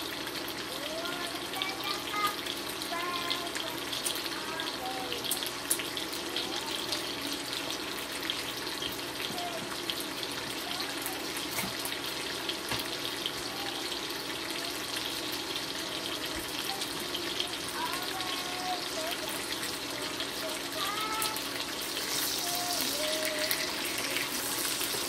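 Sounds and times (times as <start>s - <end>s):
bacon sizzling in a frying pan: 0.0s - 25.0s.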